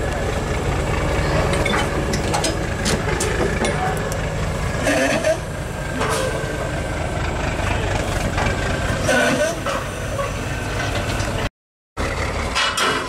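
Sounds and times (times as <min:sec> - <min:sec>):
diesel truck engine idling: 0:00.0 - 0:12.8.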